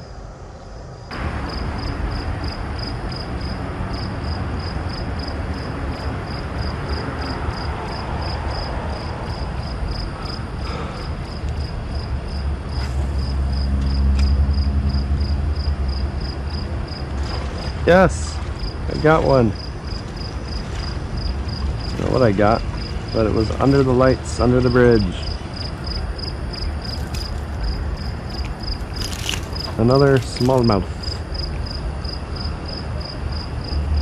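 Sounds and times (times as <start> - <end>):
cricket chirping: 0.0 - 34.0.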